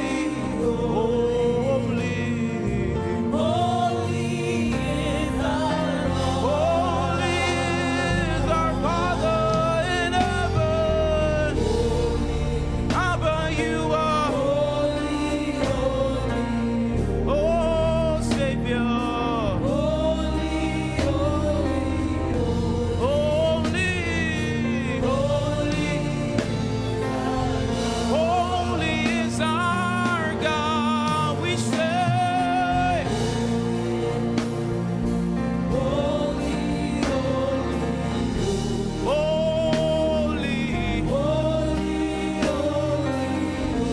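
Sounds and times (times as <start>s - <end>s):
bass: 0.0s - 43.9s
choir singing: 0.0s - 43.9s
keyboard accompaniment: 0.0s - 43.9s.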